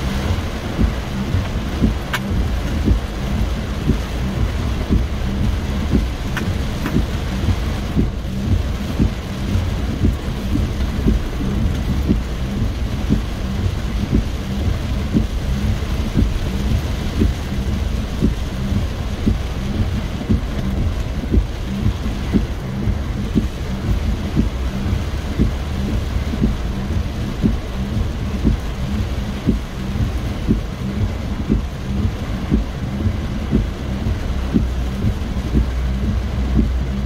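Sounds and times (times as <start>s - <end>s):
heavy rain on car roof: 0.0s - 37.0s
low rumble: 0.0s - 37.0s.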